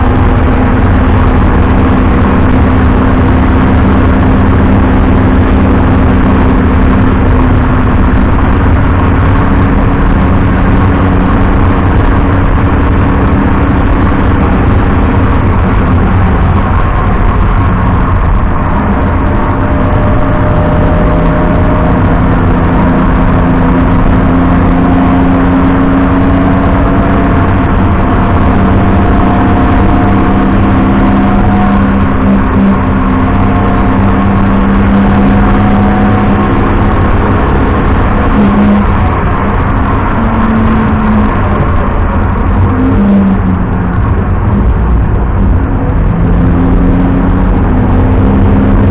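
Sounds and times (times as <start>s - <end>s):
car engine pulling under load: 0.0s - 48.9s.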